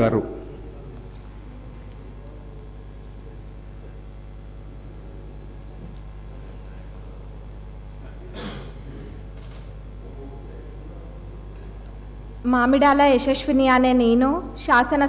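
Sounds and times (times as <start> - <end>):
low hall hum: 0.0 - 15.0.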